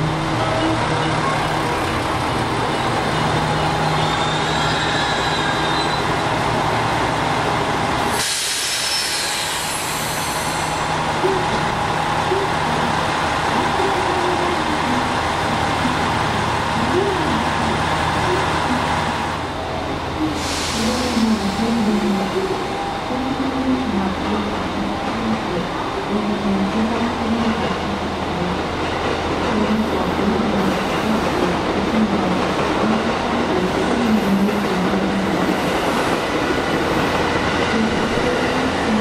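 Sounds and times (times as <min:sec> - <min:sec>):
stationary electric train humming: 0:00.0 - 0:39.0.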